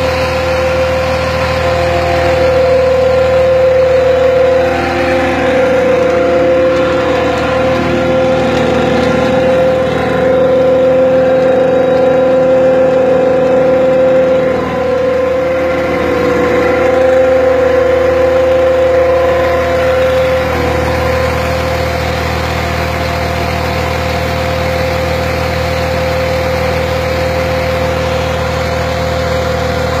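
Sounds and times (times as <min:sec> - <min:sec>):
pump engine droning: 0:00.0 - 0:30.0
water pouring from pipe: 0:00.0 - 0:30.0.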